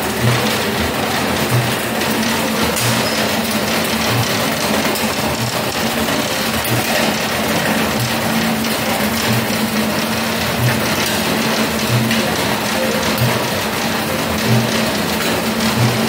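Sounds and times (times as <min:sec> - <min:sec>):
conveyor motor humming: 0:00.0 - 0:16.0.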